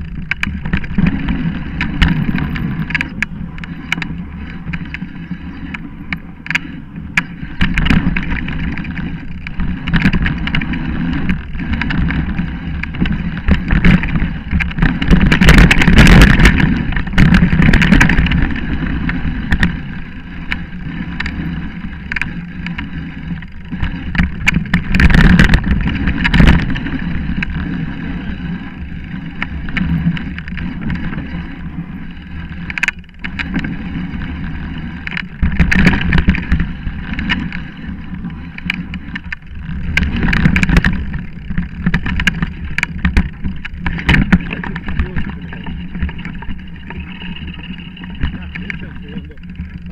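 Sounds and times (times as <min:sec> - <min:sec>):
bike rattling and knocking: 0:00.0 - 0:49.9
bike tyres rolling over leaves: 0:00.0 - 0:49.9.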